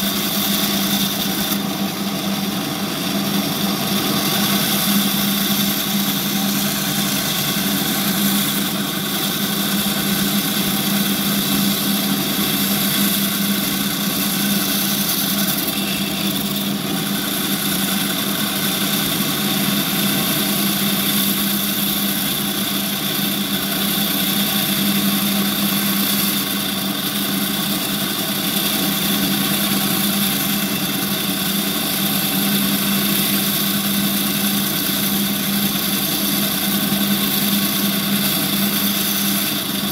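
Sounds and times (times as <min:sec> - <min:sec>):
band saw cutting coral: 0:00.0 - 0:39.9.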